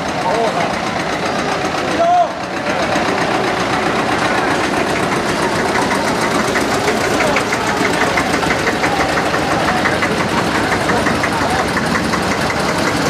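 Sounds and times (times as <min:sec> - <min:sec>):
old tractor engines knocking: 0:00.0 - 0:13.0.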